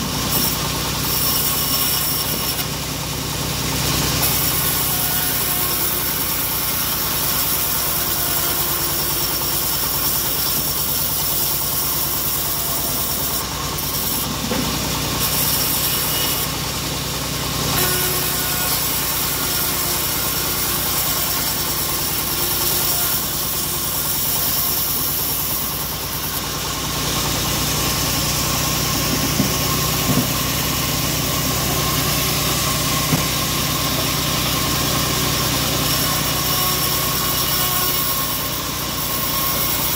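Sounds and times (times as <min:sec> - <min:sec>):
bandsaw cutting a log: 0:00.0 - 0:39.9.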